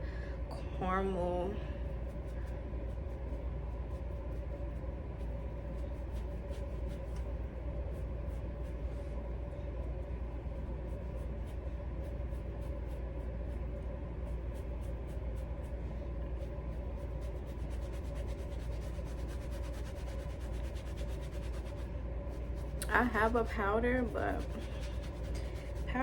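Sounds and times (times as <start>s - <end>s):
low steady hum: 0.0s - 26.0s
soft rubbing on fabric: 1.2s - 26.0s.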